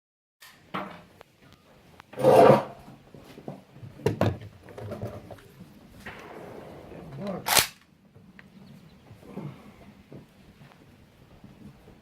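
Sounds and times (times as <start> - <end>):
rustle: 0.4 - 12.0.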